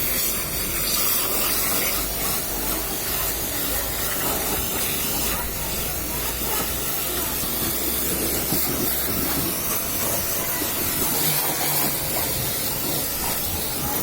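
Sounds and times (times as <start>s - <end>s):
water jet spraying with hiss: 0.0s - 14.0s.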